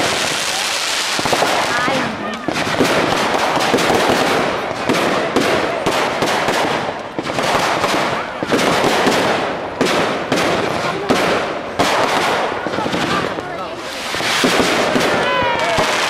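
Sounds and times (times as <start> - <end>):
fireworks crackling: 0.0 - 16.0
rapid firework cracks: 0.0 - 16.0
sharp firework bangs: 0.0 - 16.0.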